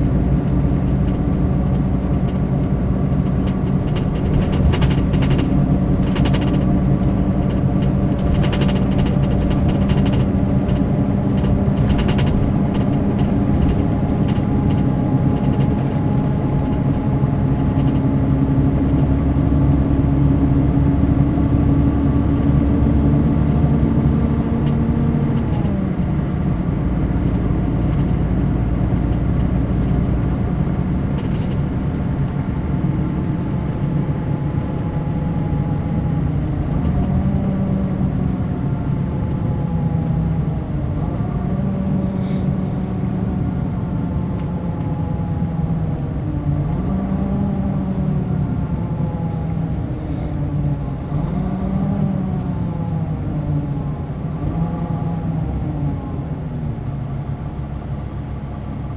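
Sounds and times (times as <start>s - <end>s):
coach diesel engine running: 0.0s - 58.9s.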